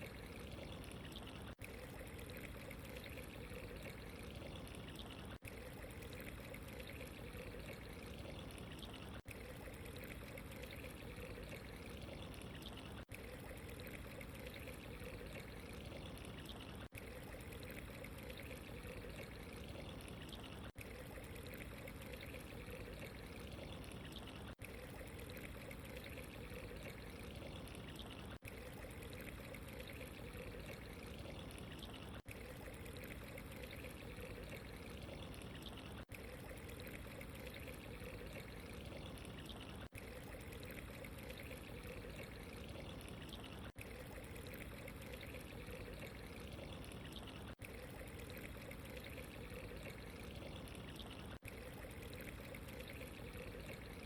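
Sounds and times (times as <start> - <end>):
running water trickling: 0.0 - 54.0.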